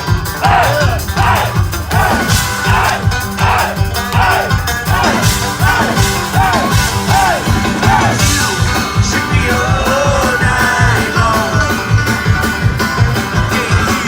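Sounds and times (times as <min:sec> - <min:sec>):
live country band playing: 0:00.0 - 0:14.0.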